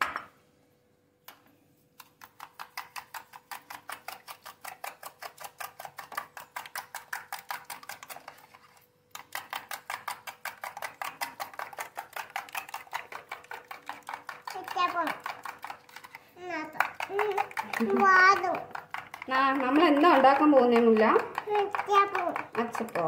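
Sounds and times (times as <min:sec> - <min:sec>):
metal spoon beating in plastic bowl: 0:02.0 - 0:23.0.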